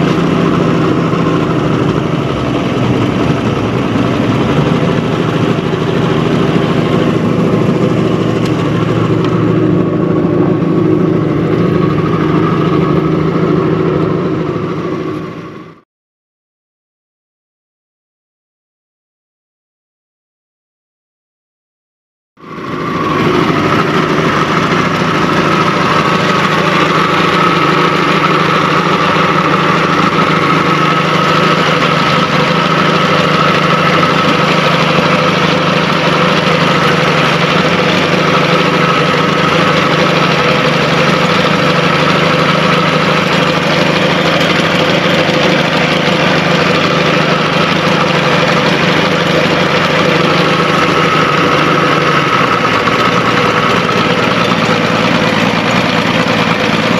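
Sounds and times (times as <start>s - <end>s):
outboard motor running: 0.0s - 15.8s, 22.4s - 56.9s.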